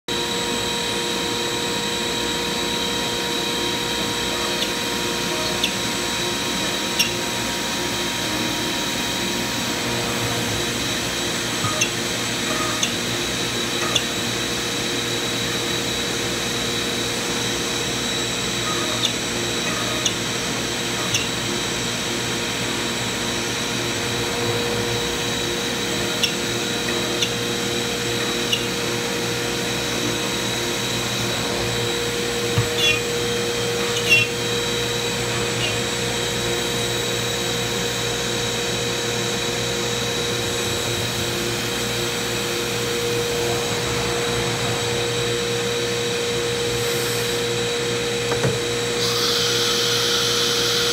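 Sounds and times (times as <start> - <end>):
dust collector air rush: 0.1 - 50.9
router spindle high whine: 0.1 - 50.9.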